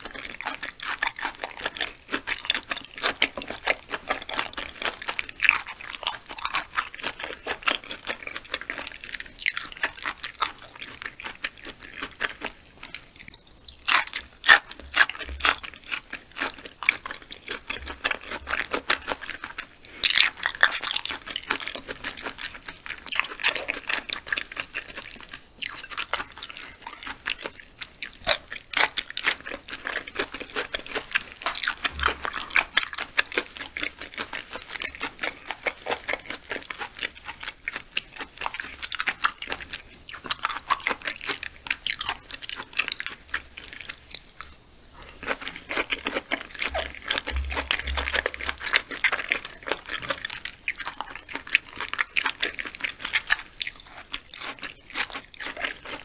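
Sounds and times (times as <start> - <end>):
wet chewing mouth sounds: 0.0 - 56.0.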